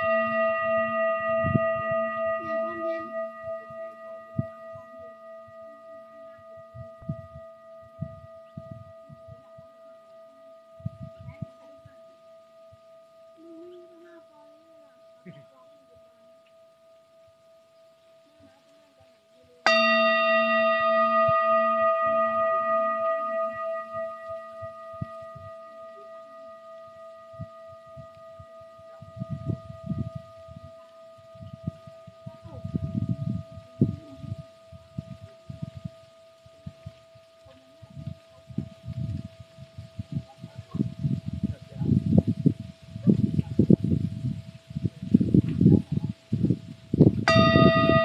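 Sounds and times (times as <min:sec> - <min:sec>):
singing bowl ringing: 0:00.0 - 0:48.0.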